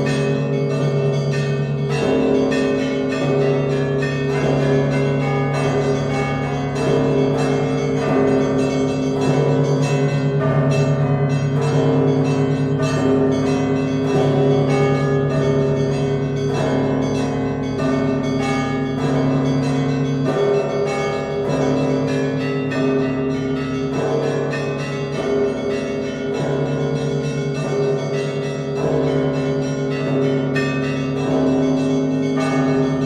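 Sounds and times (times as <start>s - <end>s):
deep bells struck: 0.0s - 33.0s.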